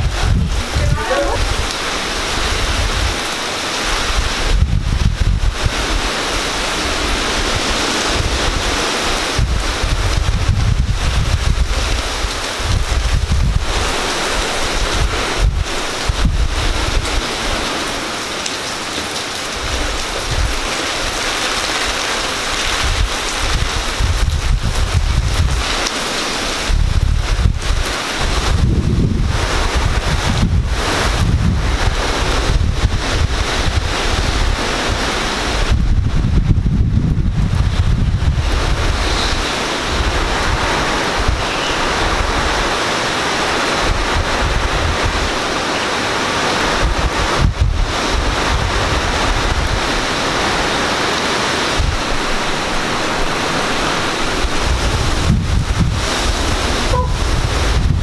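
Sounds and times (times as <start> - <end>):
heavy rain pouring: 0.0 - 58.0
wind rumble on microphone: 0.0 - 58.0.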